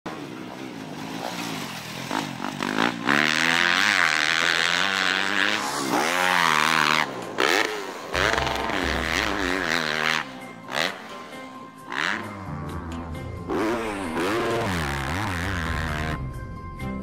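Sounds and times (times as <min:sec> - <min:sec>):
motorbike engine revving: 0:00.9 - 0:16.2.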